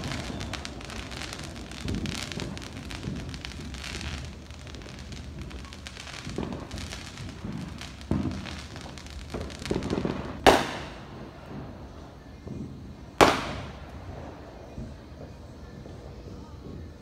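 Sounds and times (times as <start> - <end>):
loud firework bangs: 0.0 - 16.9
fireworks crackling: 0.0 - 17.0.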